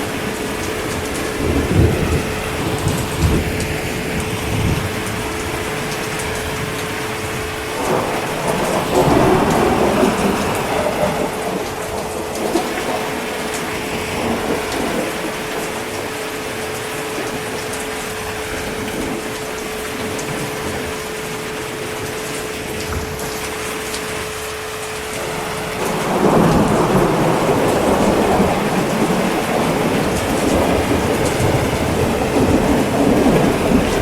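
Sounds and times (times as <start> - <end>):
heavy rain: 0.0 - 34.0
thunder rolling: 0.0 - 34.0.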